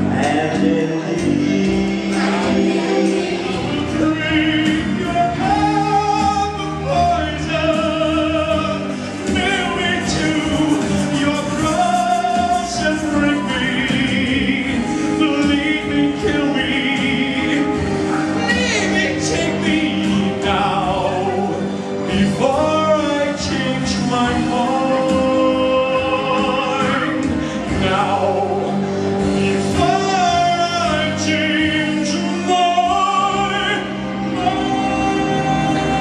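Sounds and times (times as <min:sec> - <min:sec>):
instrumental accompaniment: 0:00.0 - 0:36.0
man singing into a microphone: 0:00.0 - 0:36.0.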